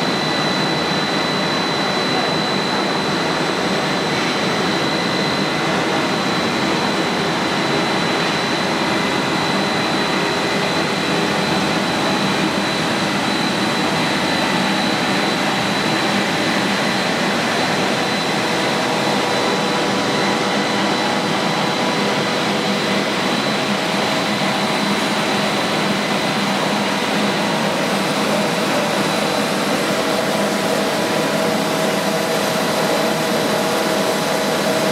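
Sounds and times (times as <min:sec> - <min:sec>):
constant high whine: 0:00.0 - 0:34.9
industrial machine drone and hiss: 0:00.1 - 0:34.9.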